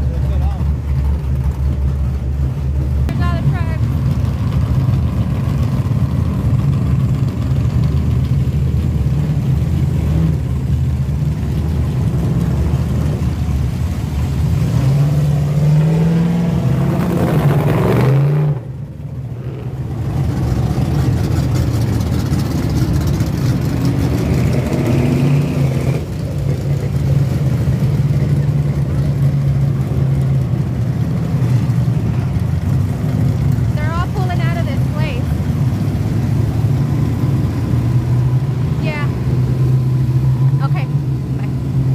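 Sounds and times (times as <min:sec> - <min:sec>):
engine running and revving: 0:00.0 - 0:41.9.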